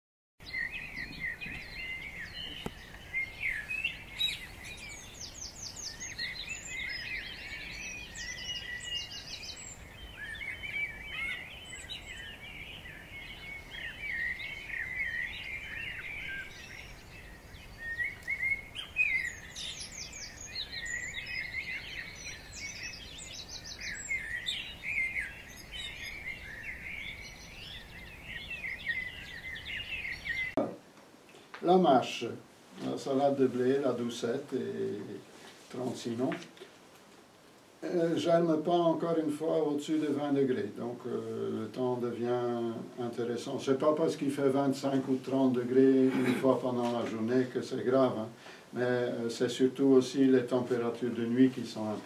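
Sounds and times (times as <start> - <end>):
birds chirping and singing: 0.4 - 30.6, 37.8 - 52.0.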